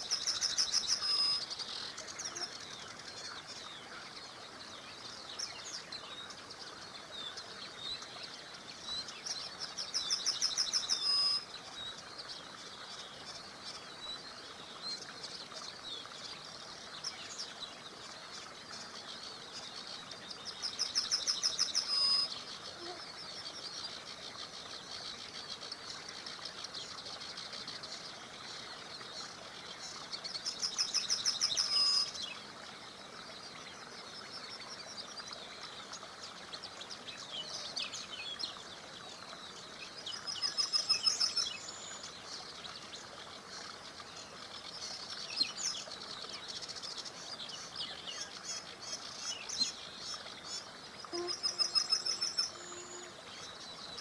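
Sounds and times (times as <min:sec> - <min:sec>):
songbird trilled song: 0:00.0 - 0:54.0
steady soft hiss: 0:00.0 - 0:54.0.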